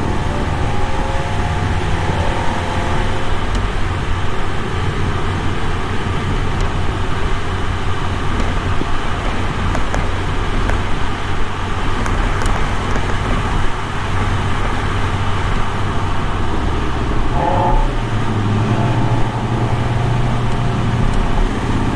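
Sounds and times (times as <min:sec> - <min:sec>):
car engine exhaust running: 0:00.0 - 0:21.9.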